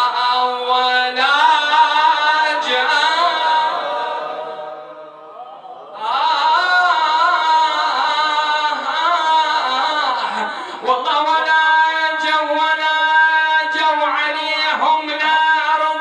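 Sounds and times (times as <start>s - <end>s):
man chanting a lament: 0.0s - 16.0s.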